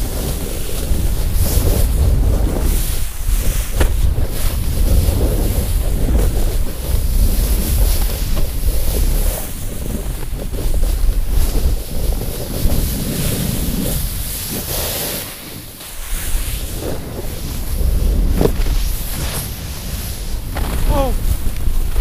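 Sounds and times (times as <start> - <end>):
snowboards carving on snow: 0.0 - 22.0
wind on microphone: 0.0 - 22.0.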